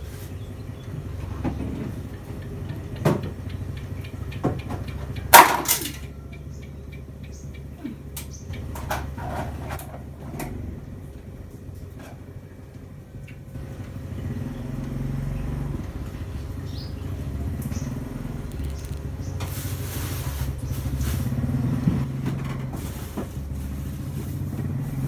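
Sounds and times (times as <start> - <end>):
low motor rumble: 0.0 - 25.0.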